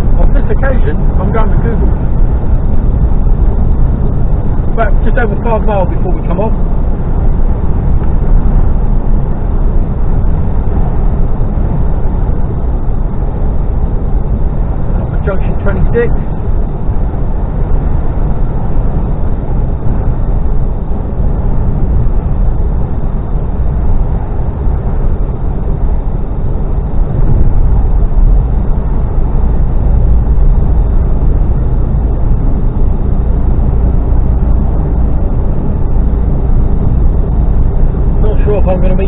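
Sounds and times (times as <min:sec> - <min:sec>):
truck cab engine drone: 0:00.0 - 0:39.0.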